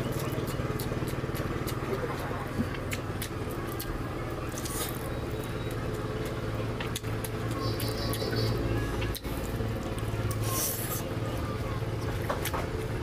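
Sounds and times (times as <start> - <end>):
steady low hum: 0.0 - 13.0
wet chewing and lip-smacking: 0.0 - 13.0.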